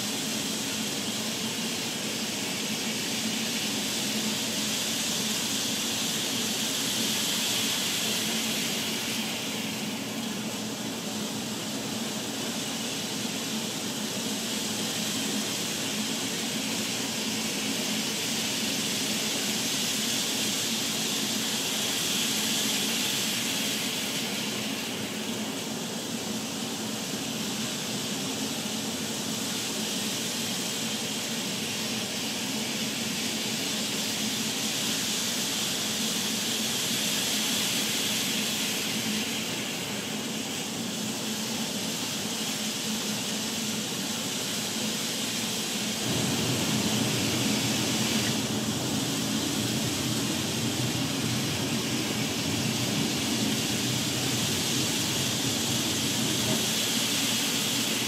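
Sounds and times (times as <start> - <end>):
model trains whirring on track: 0.0 - 58.0.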